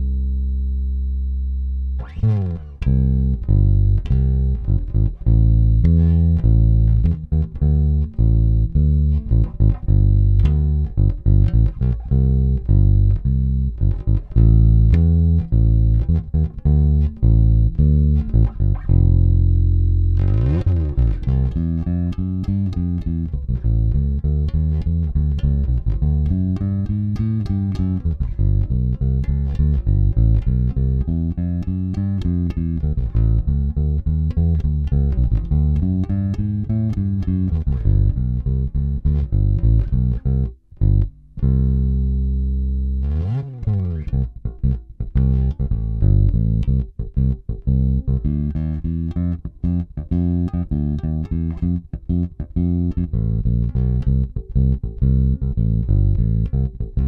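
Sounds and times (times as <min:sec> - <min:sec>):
electric bass played fingerstyle: 0:00.0 - 0:57.0.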